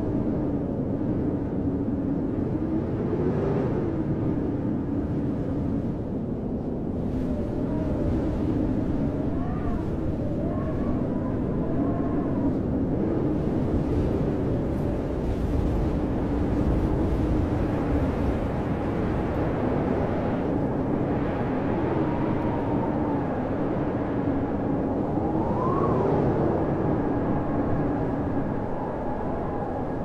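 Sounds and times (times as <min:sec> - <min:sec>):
blizzard wind howling: 0:00.0 - 0:30.0.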